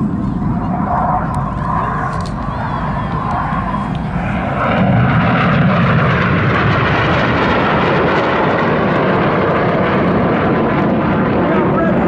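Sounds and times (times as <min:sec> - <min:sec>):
jets flying past roaring: 0:00.0 - 0:12.0.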